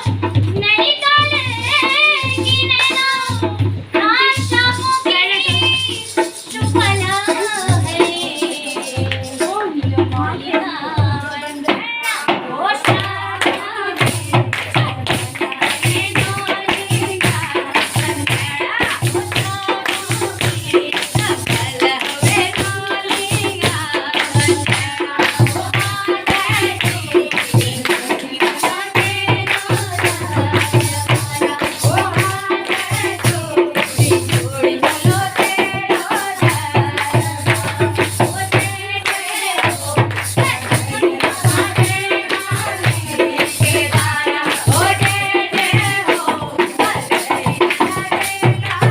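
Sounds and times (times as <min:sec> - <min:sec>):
jingling percussion beat: 0:00.0 - 0:48.9.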